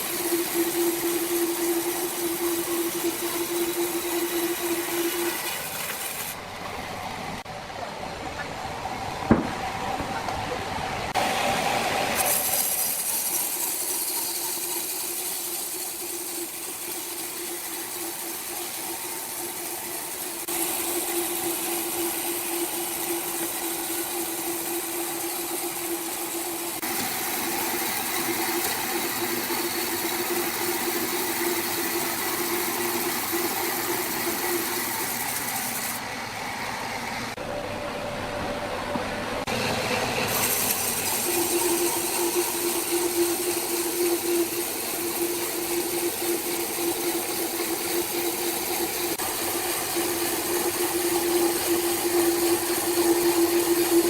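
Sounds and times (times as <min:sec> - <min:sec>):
motor-driven saw running: 0:00.0 - 0:07.3, 0:11.1 - 0:37.4, 0:39.4 - 0:54.0.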